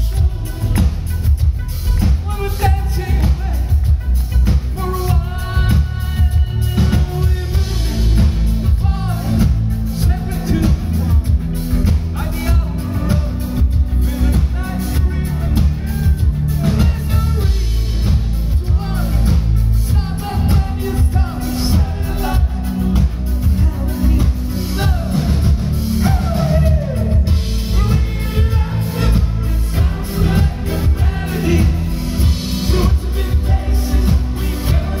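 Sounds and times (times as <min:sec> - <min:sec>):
drum kit: 0:00.0 - 0:35.0
heavy bass: 0:00.0 - 0:35.0
man singing: 0:00.0 - 0:35.0.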